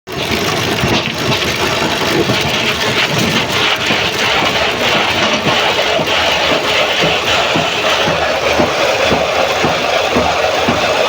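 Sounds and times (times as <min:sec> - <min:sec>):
woodworking machine running: 0:00.7 - 0:11.0.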